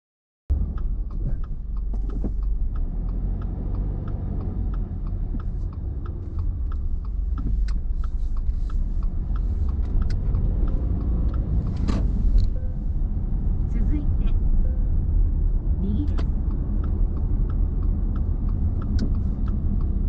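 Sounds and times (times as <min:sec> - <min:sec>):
car engine rumble: 0:00.5 - 0:20.0.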